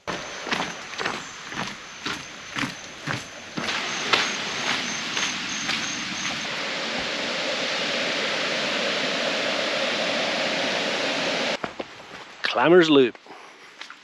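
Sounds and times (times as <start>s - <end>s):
falling water rushing: 0.0s - 11.6s.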